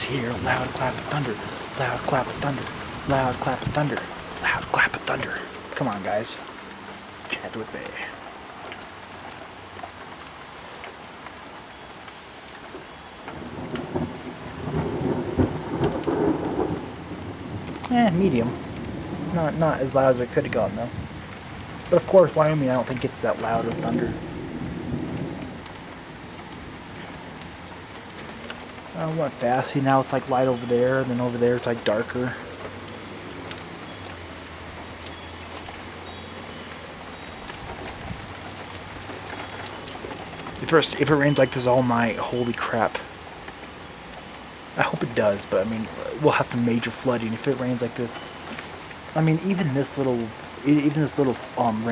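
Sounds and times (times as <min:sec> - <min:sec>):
thunder rumbling: 0:00.0 - 0:08.3, 0:13.3 - 0:34.2, 0:37.1 - 0:51.9
heavy rain: 0:00.0 - 0:51.9.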